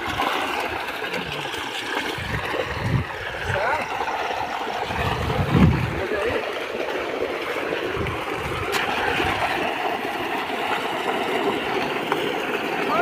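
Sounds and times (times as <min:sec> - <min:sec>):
fish thrashing in water: 0:00.0 - 0:13.0.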